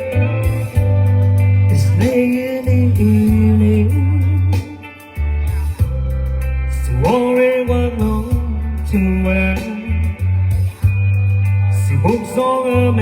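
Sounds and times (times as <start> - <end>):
bass line: 0.0 - 13.0
lead guitar held notes: 0.0 - 13.0.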